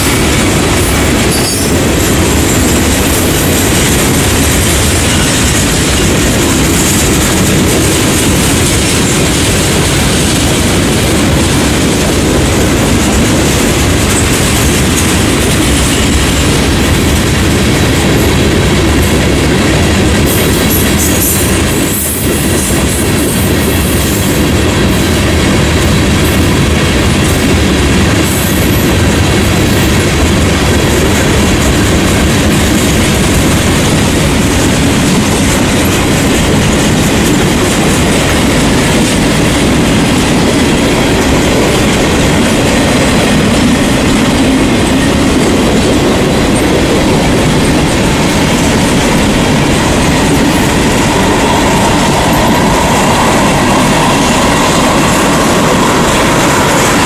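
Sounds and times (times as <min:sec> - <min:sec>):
clickety-clack over rail joints: 0:00.0 - 0:57.0
steel wheels rumbling on rail: 0:00.0 - 0:57.0.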